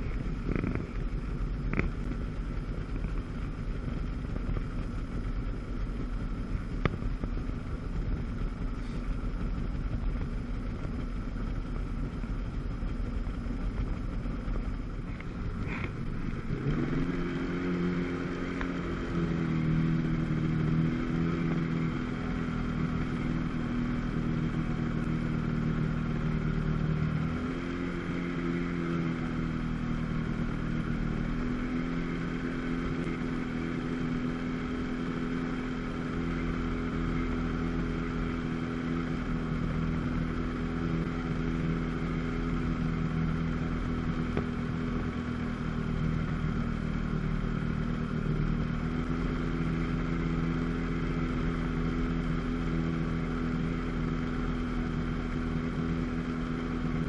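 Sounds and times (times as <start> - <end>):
watercraft engine running: 0.0 - 57.0.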